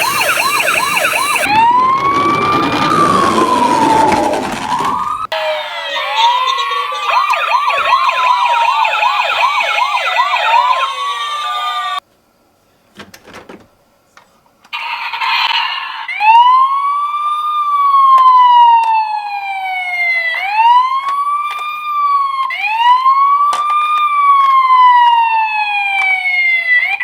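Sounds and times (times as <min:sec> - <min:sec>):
toy ambulance sirens: 0:00.0 - 0:12.0, 0:14.8 - 0:27.0.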